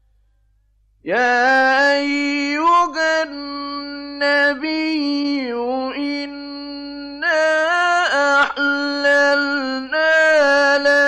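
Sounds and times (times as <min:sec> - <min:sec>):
man chanting recitation: 0:01.0 - 0:11.0.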